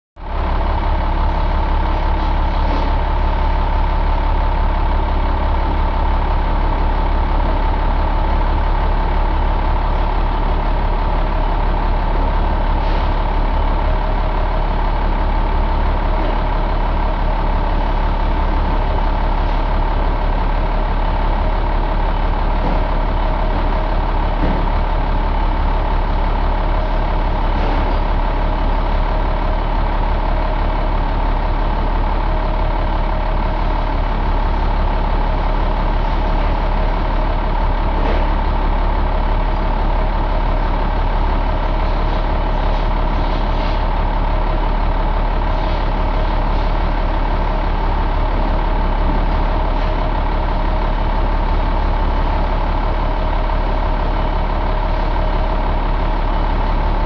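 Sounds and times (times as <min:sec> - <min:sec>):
diesel truck engine idling: 0:00.2 - 0:57.0.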